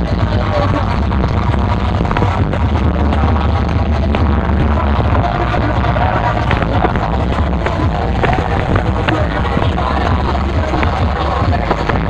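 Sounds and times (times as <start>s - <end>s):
loud electronic dance music: 0.0s - 12.0s.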